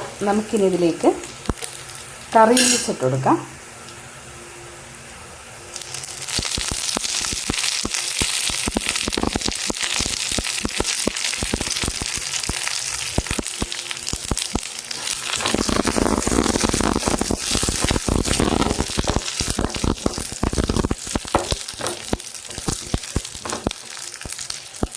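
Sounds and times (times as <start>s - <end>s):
oil sizzling: 0.0s - 24.9s
leaves crackling in hot oil: 0.1s - 24.9s.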